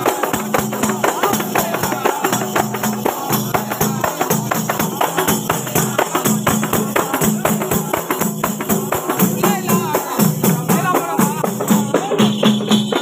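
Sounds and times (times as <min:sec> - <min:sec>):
frame drums beaten by hand: 0:00.0 - 0:13.0.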